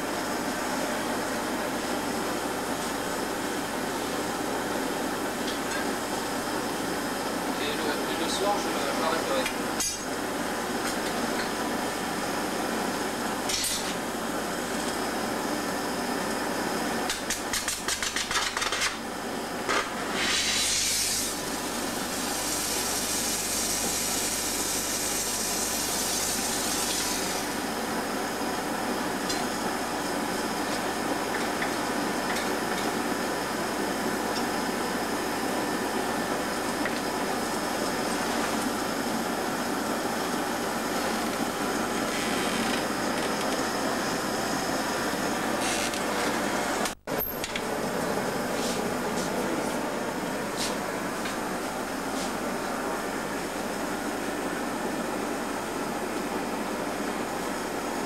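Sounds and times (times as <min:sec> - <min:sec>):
gas furnace roaring: 0:00.0 - 0:58.0.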